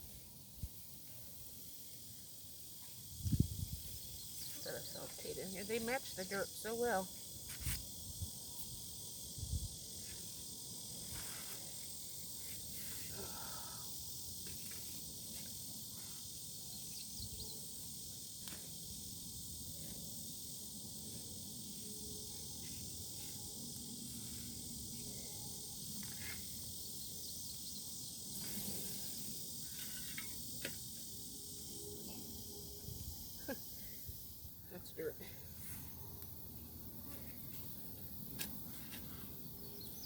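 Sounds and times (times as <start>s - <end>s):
high-pitched insect drone: 0.8s - 38.3s.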